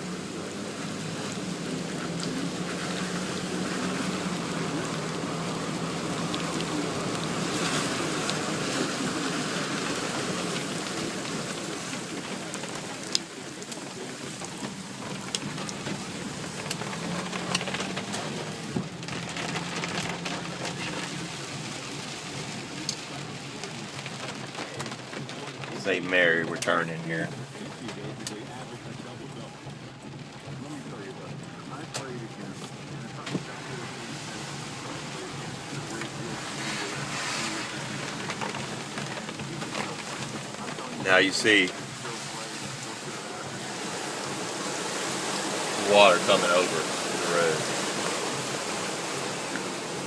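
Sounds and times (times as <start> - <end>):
engine and road hum: 0.0 - 50.0
rain on car roof: 0.0 - 50.0.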